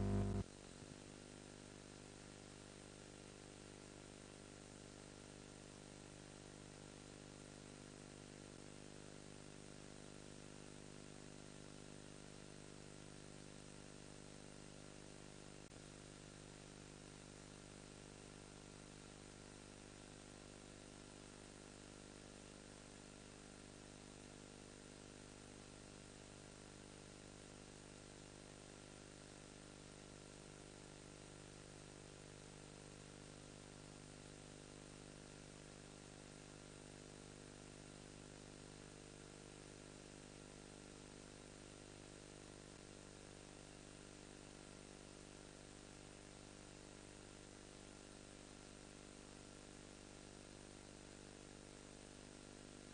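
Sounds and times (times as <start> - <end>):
faint electrical hum and buzz: 0.0 - 52.9.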